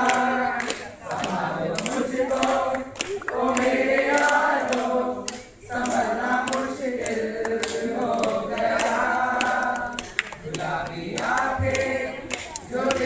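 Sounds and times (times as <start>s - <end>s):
choir singing unaccompanied: 0.0s - 13.0s.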